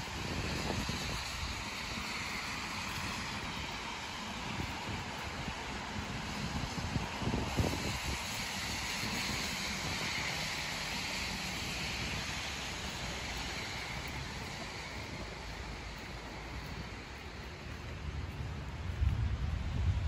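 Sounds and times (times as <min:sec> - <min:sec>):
tyre hiss on wet road: 0:00.0 - 0:20.0
wind rumbling on microphone: 0:00.0 - 0:20.0.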